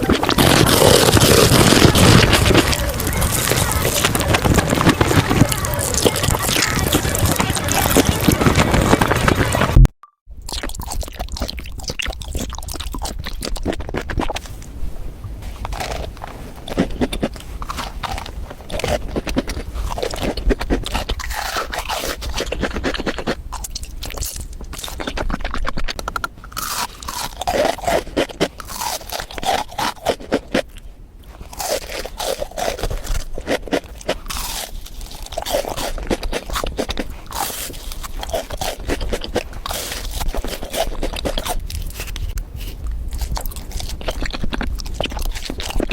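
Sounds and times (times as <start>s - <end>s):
crunching and chewing crisp food: 0.0s - 45.9s
wet mouth sounds: 0.0s - 45.9s.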